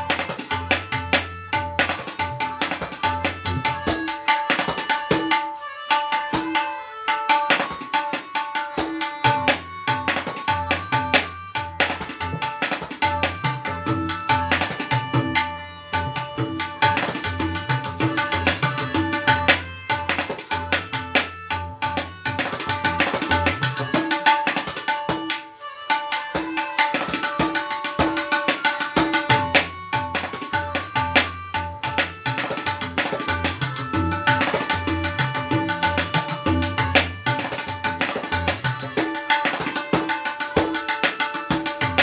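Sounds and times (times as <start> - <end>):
tabla drumming: 0.0 - 42.0.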